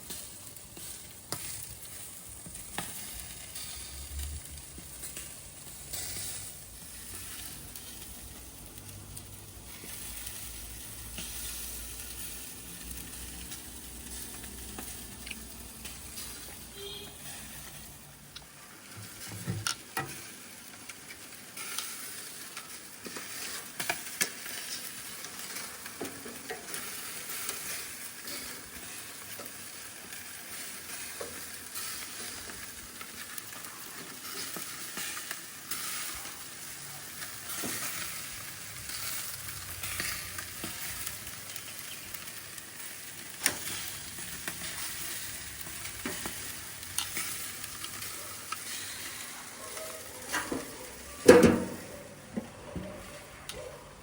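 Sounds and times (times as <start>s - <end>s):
meat sizzling on a grill: 0.0s - 54.0s.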